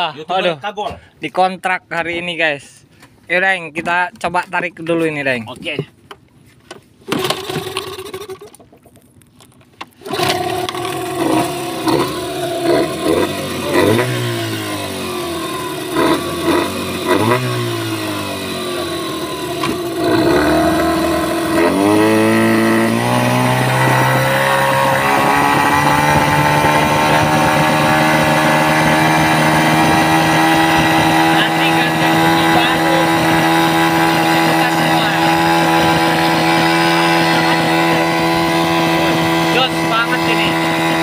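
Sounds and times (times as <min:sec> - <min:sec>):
outboard motor running: 0:05.7 - 0:41.0.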